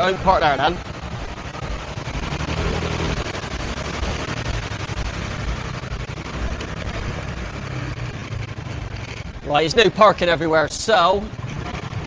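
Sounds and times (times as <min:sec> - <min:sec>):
motorbike engine pulsing: 0:00.0 - 0:12.0
street traffic noise: 0:00.0 - 0:12.0.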